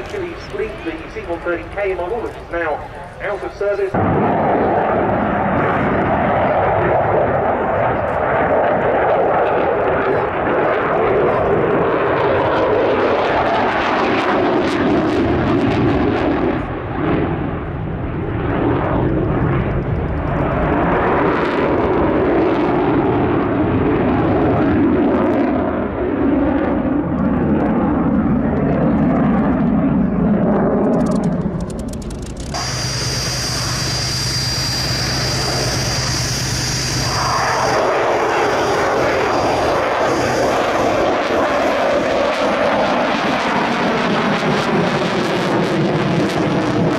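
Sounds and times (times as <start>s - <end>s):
loud jet roar: 0.0s - 46.9s.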